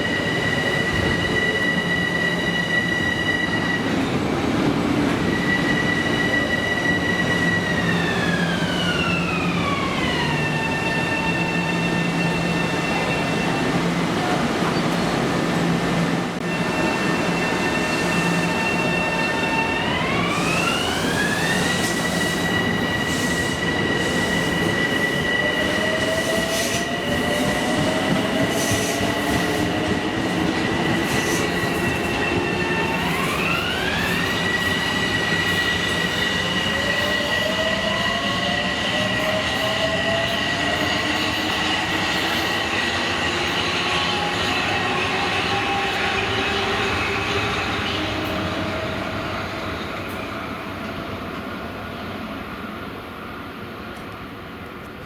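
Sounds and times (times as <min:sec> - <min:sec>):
train wheels rumbling on rails: 0:00.0 - 0:52.2.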